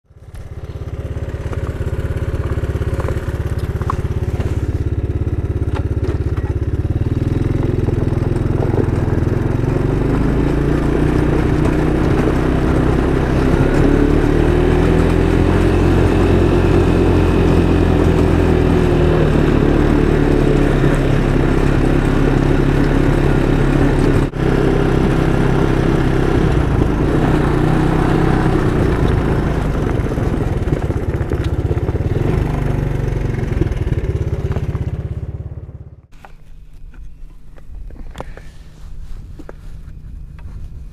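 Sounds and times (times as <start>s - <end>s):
atv engine running: 0.1s - 40.9s.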